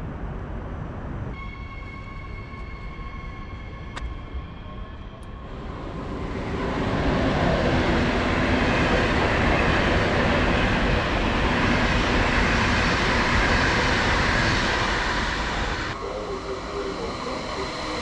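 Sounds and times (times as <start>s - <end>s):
train rushing and rumbling: 0.0s - 18.0s.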